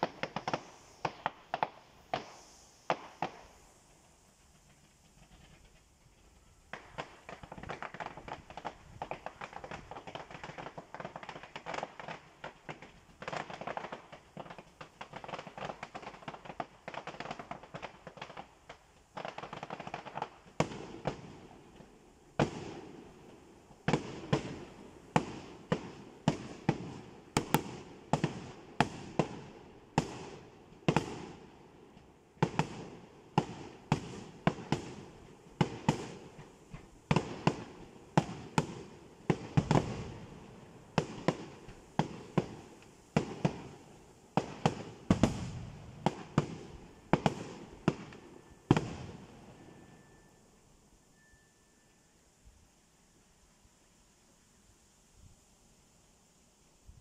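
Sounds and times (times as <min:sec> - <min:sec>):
fireworks bursting with sharp bangs: 0:00.0 - 0:51.6.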